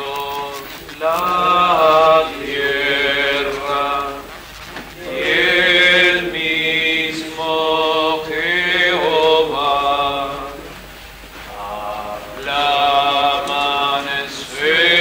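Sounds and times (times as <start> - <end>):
men singing a hymn: 0.0 - 15.0.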